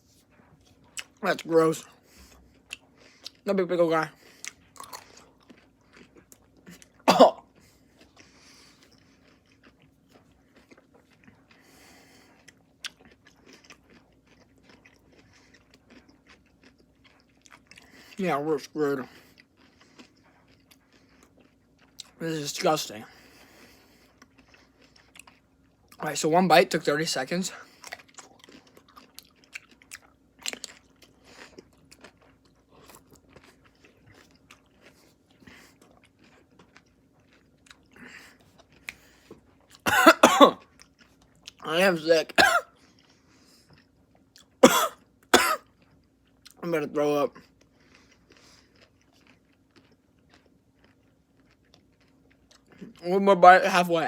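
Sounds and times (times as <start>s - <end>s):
pickle chewing crunches: 0.2s - 26.9s, 27.6s - 54.0s.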